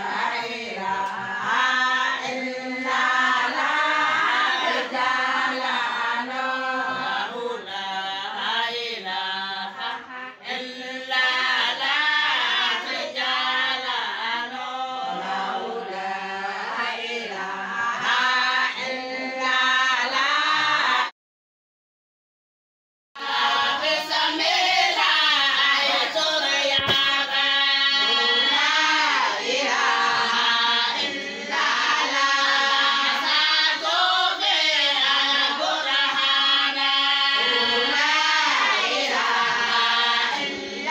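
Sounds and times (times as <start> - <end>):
women singing in chorus: 0.0 - 21.1, 23.2 - 40.9.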